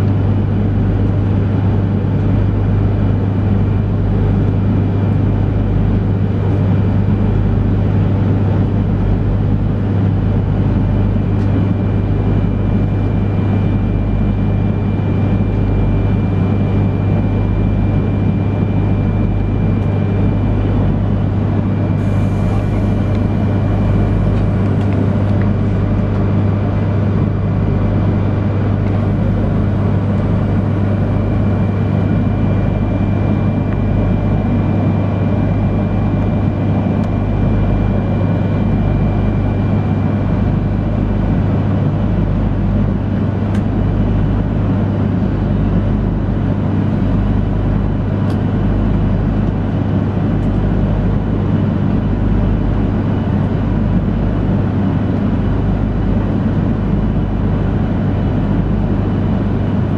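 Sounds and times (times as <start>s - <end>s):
low hum with high tone: 0.0s - 59.9s.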